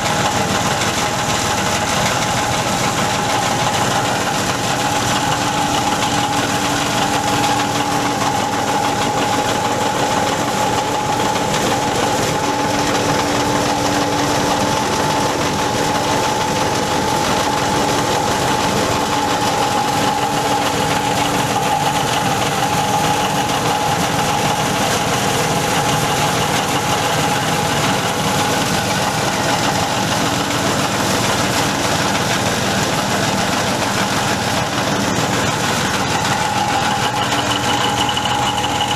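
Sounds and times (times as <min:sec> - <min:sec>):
shredding machine running: 0:00.0 - 0:38.9.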